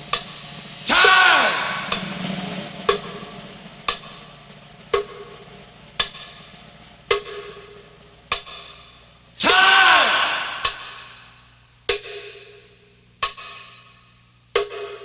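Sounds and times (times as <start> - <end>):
sparse percussive beat: 0.0 - 13.6.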